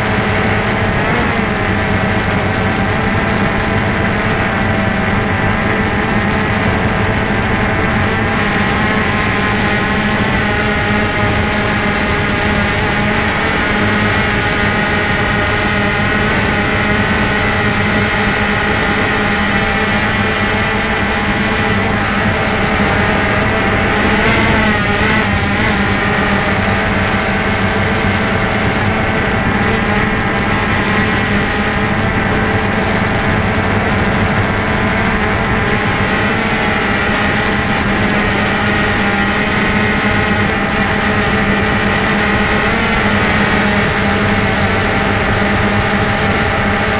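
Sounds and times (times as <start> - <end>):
drone propellers buzzing: 0.0 - 46.9.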